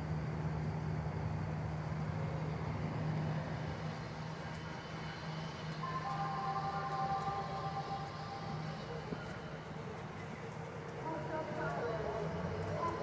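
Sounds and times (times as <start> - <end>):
vehicle rumble and hum: 0.0 - 13.0.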